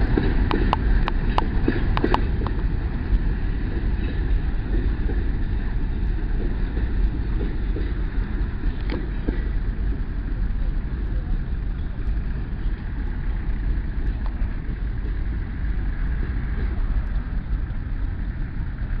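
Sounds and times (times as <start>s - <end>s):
freight train wheels rumbling on track: 0.0s - 19.0s.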